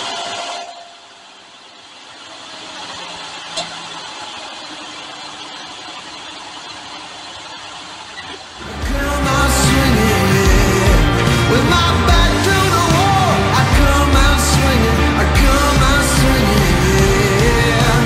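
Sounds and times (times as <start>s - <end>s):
car engine idling: 1.5s - 18.0s.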